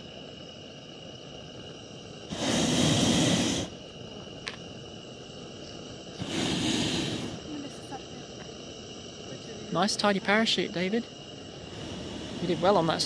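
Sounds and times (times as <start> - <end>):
propane burner roaring: 0.0 - 13.0.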